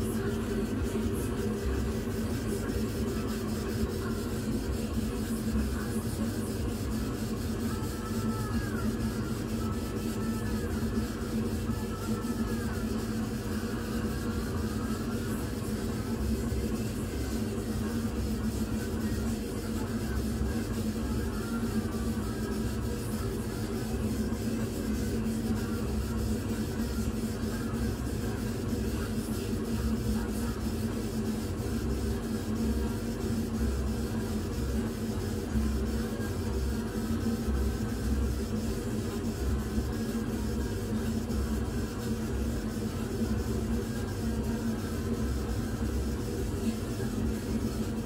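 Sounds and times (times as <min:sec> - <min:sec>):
laser engraver humming: 0:00.0 - 0:48.0.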